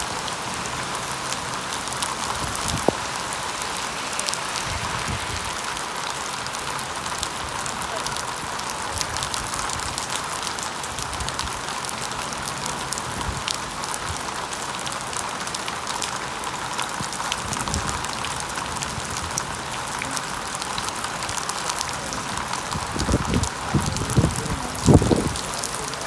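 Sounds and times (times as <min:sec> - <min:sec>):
very heavy rain falling: 0:00.0 - 0:26.0.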